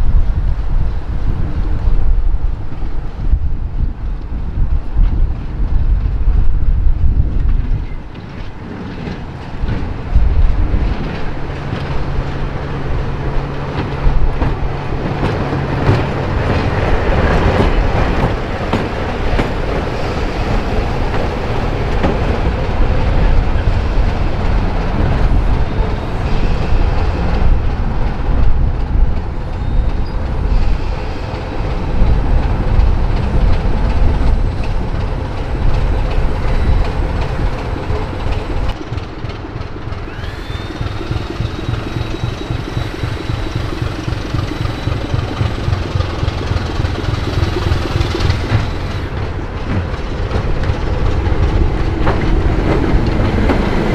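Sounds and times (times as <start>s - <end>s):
diesel locomotive engine: 0.0s - 53.9s
wheels clicking over rail joints: 4.2s - 53.9s.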